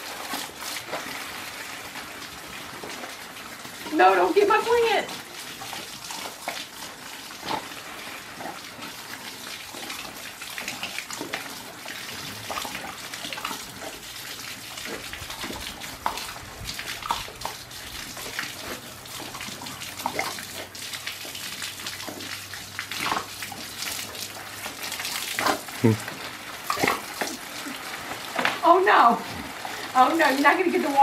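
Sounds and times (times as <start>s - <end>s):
hose spraying water: 0.0s - 31.0s
water splashing: 0.0s - 31.0s.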